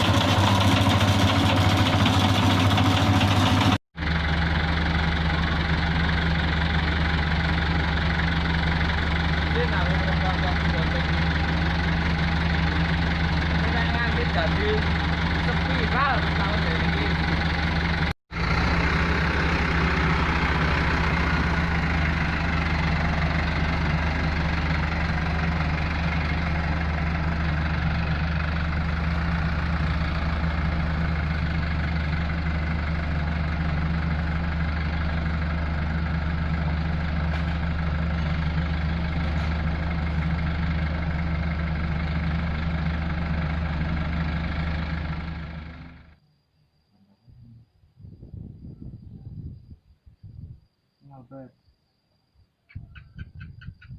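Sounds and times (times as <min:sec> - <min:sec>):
diesel engine idling: 0:00.0 - 0:46.2.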